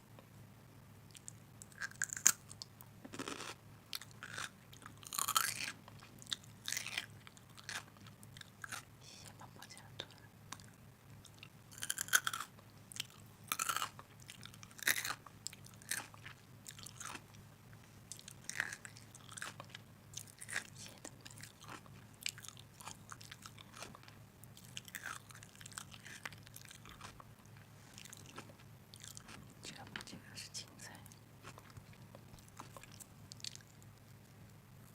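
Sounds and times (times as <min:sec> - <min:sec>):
faint low hum: 0:00.0 - 0:34.9
chewing crunchy food: 0:01.1 - 0:17.5, 0:18.1 - 0:30.1, 0:30.8 - 0:34.9.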